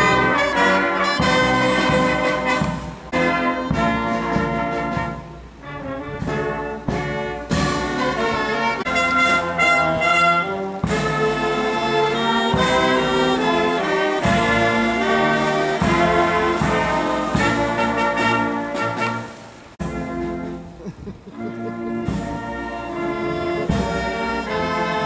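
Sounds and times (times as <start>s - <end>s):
wind band playing: 0.0s - 25.0s.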